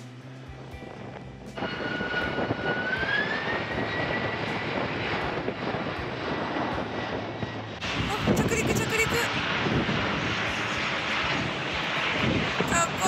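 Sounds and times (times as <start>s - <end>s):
jet engine rushing roar: 0.0s - 13.0s
jet engine whine: 0.0s - 13.0s.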